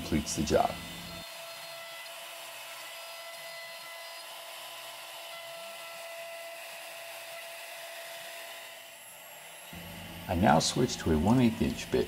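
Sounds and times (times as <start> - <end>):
router spindle whine: 0.0 - 12.0.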